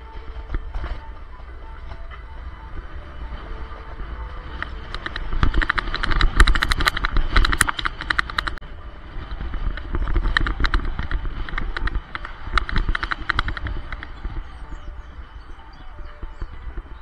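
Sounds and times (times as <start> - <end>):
low road rumble: 0.0 - 17.0
scooter wheels rattling on pavement: 0.0 - 17.0
wind on microphone: 0.0 - 17.0.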